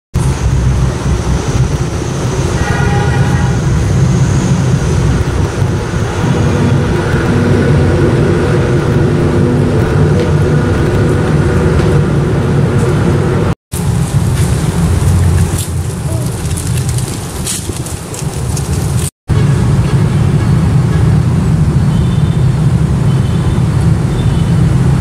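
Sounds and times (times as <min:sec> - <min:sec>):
street traffic rumble: 0:00.1 - 0:25.0
passing vehicle engines: 0:00.2 - 0:25.0.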